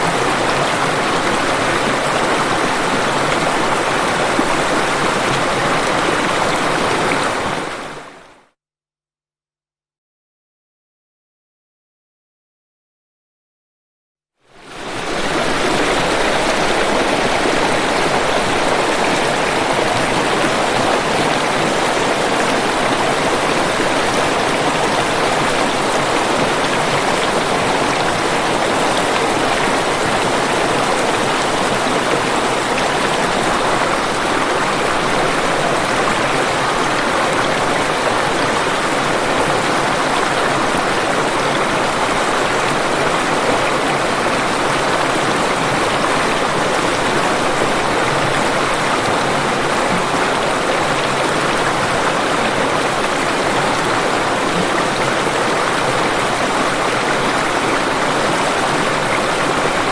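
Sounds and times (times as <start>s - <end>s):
waterfall rushing: 0.0s - 8.2s, 14.6s - 59.9s.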